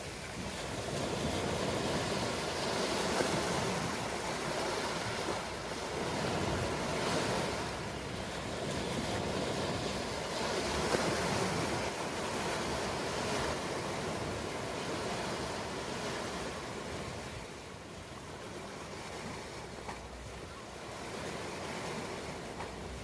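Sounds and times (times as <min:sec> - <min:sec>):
ocean surf washing in: 0:00.0 - 0:23.0.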